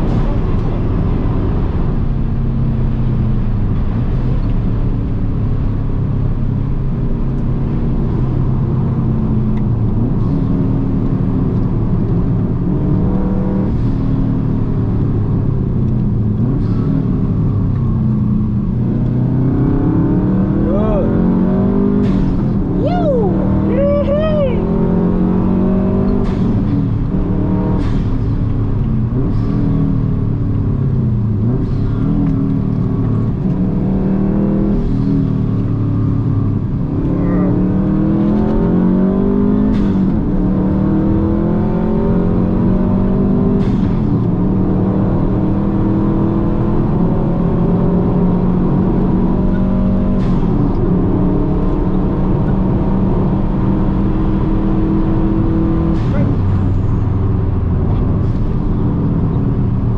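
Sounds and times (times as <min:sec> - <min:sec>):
race car engine accelerating: 0:06.8 - 0:59.9.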